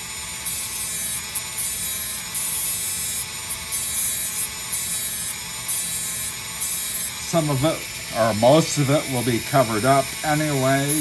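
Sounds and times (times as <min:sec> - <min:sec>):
rotary tool motor whine: 0:00.0 - 0:11.0
sanding bit grinding wood: 0:00.0 - 0:11.0.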